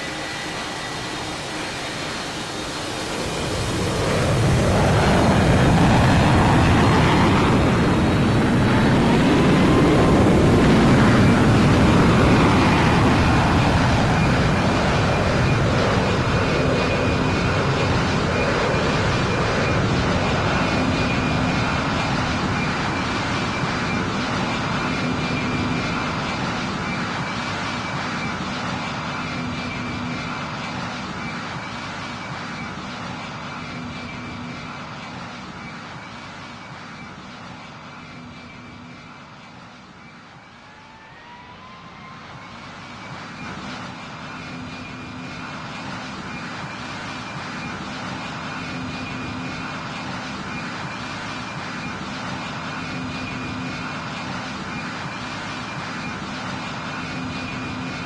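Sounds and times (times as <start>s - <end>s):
airplane engines passing: 0.0s - 58.0s.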